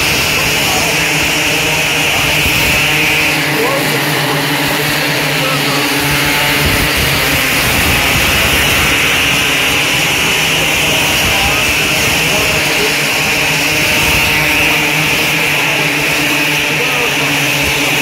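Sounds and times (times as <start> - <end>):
racing car engines droning: 0.0 - 18.0.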